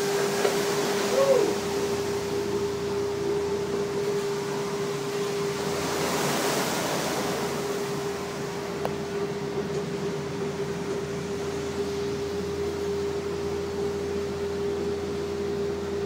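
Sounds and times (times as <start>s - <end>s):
rushing water wash: 0.0s - 15.5s
ferry engine hum: 0.0s - 16.0s.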